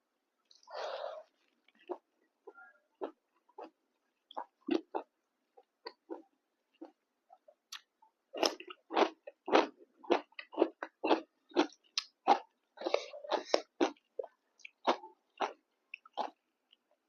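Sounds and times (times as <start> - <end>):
person chewing food: 0.4 - 17.0.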